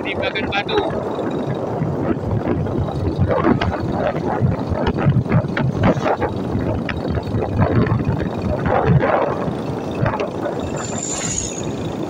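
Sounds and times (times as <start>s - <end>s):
vehicle road and engine rumble: 0.0s - 12.0s
wind buffeting microphone: 0.0s - 12.0s.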